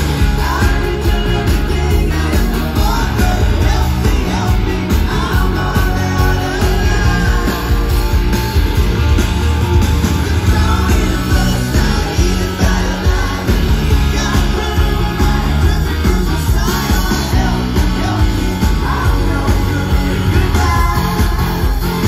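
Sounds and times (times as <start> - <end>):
person singing lead vocal: 0.0 - 8.3, 10.4 - 22.0
rock band playing live: 0.0 - 22.0.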